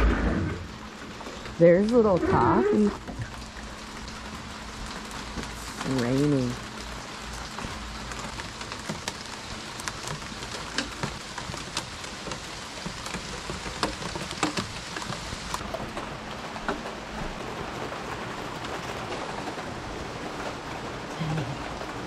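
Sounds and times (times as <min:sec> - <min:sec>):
rain on a wooden deck: 0:00.0 - 0:22.0.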